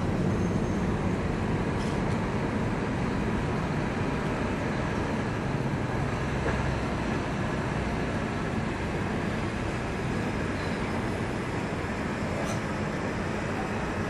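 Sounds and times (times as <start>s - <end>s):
ship machinery rumble and hiss: 0.0s - 14.0s.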